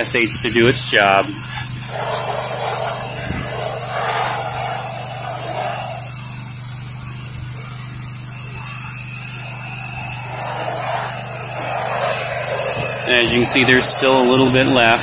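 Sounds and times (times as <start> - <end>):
pressure washer engine hum: 0.0 - 15.0
pressure washer spray hiss: 0.9 - 7.5, 8.2 - 15.0.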